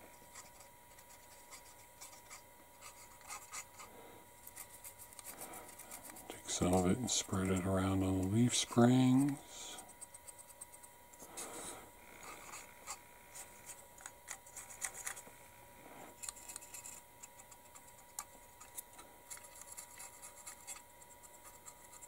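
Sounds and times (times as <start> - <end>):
paintbrush scratching on plastic: 0.2 - 10.8, 12.2 - 15.2, 16.2 - 22.0.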